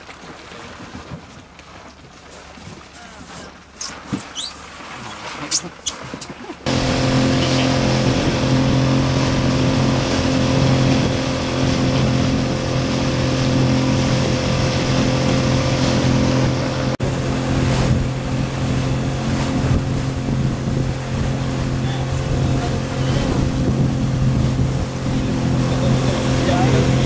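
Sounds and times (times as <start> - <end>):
motorboat engine running: 0.0 - 27.0
rushing wind and water: 0.0 - 27.0.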